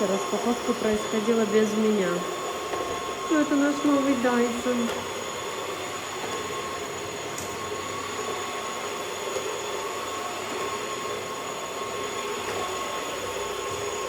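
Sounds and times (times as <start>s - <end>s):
floor cleaner whirring hum: 0.0s - 14.0s.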